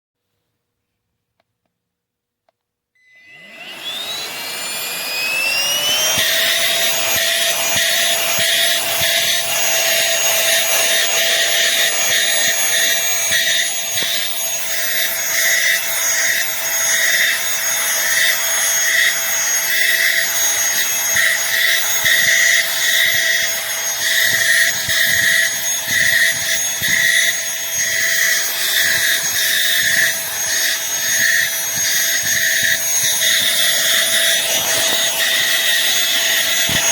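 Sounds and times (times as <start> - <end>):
handheld vacuum cleaner whine: 3.0 - 36.9.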